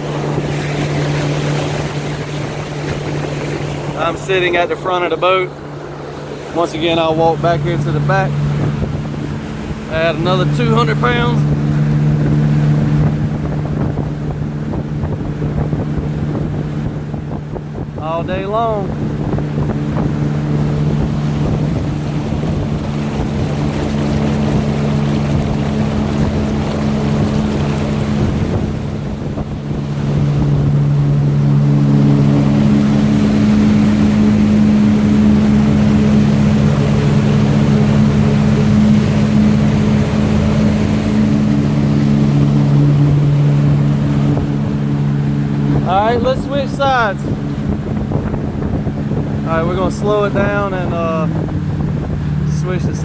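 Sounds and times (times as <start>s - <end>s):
boat engine droning: 0.0s - 53.0s
wind and water rushing: 0.0s - 53.0s.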